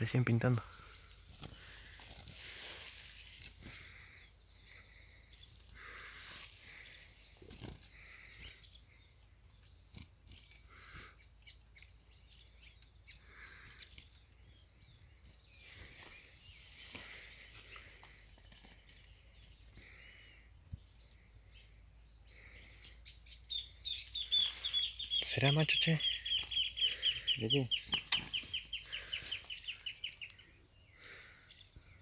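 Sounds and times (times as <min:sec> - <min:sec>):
bird chirps: 0:00.0 - 0:32.0.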